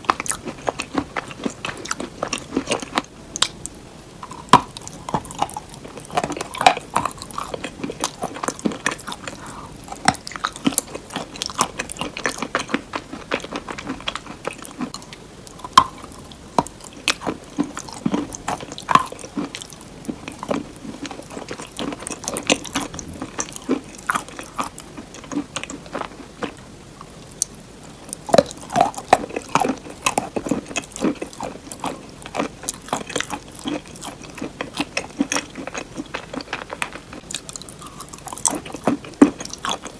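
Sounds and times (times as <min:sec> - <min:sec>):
chewing crunchy cheese: 0:00.0 - 0:39.9.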